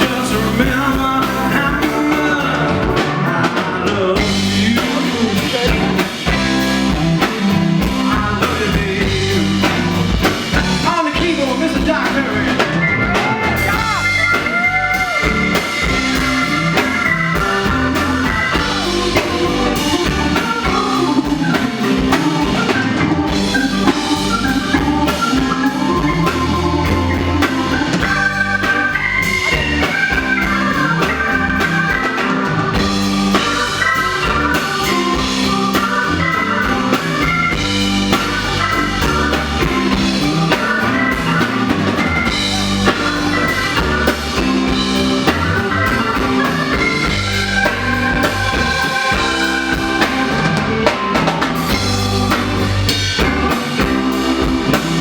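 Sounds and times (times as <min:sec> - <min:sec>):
live rock band playing: 0:00.0 - 0:55.0
organ keyboard solo: 0:00.0 - 0:55.0.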